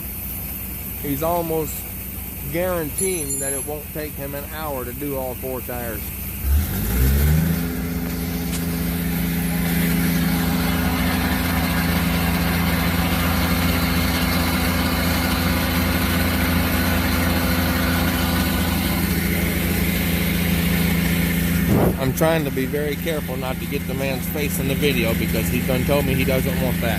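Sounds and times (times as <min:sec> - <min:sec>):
engine starting and running: 0:00.0 - 0:26.9.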